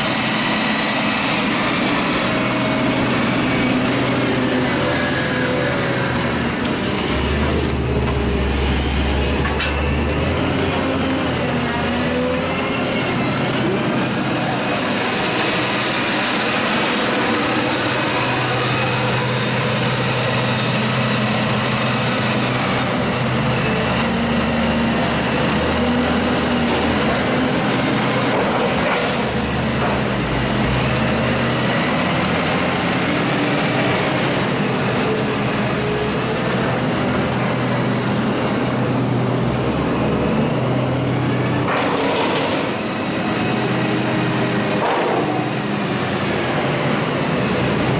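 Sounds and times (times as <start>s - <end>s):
heavy machinery engine drone: 0.0s - 47.9s.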